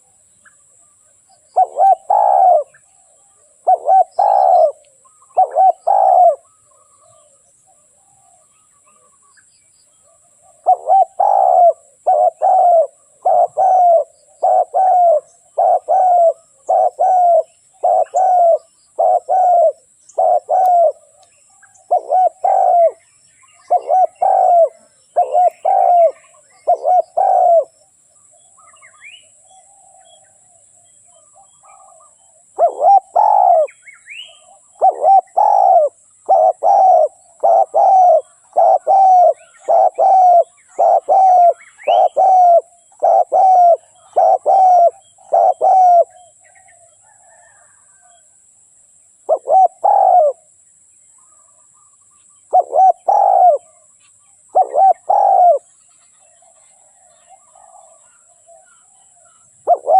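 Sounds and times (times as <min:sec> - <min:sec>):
faint bird chirps: 0:00.0 - 0:59.9
dove cooing: 0:00.8 - 0:09.2, 0:10.0 - 0:27.8, 0:28.6 - 0:48.2, 0:49.3 - 0:50.5, 0:52.5 - 0:59.9.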